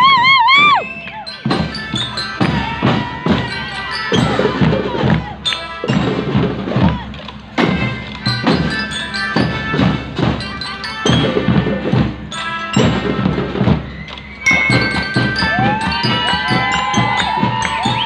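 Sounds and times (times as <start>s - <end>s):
bell-like mallet percussion melody: 0.0s - 18.0s.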